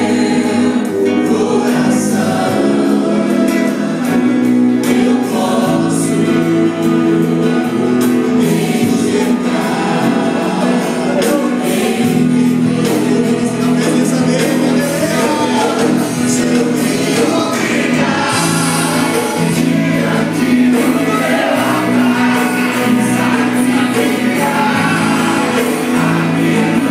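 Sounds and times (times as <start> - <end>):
group of singers: 0.0 - 26.9
instrumental accompaniment: 0.0 - 26.9.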